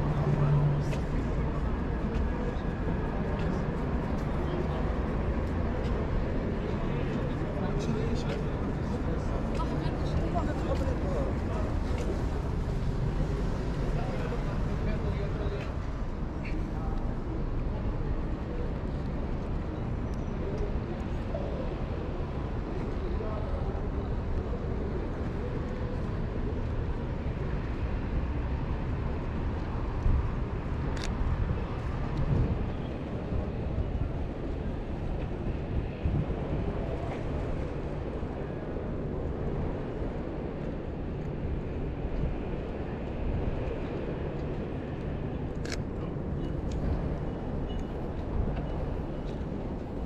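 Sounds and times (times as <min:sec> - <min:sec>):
low street rumble: 0:00.0 - 0:50.0.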